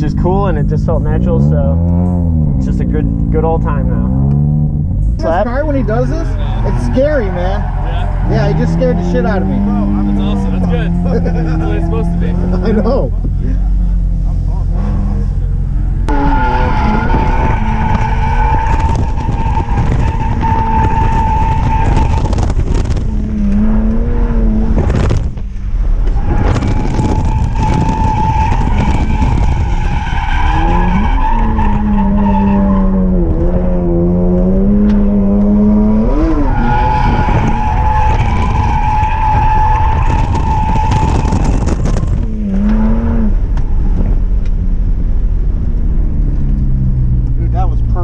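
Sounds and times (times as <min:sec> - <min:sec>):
tires squealing: 0:00.0 - 0:44.5
car engine at high revs: 0:00.0 - 0:48.0.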